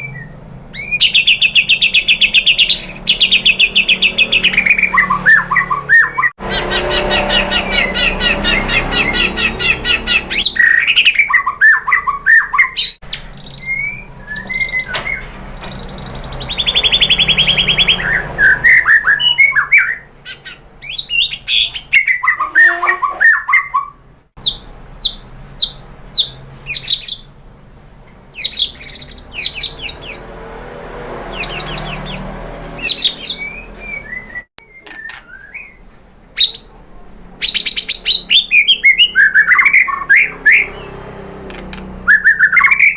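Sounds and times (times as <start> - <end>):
songbird singing whistles and trills: 0.0 - 27.3, 28.3 - 30.3, 31.3 - 41.0, 42.0 - 42.9.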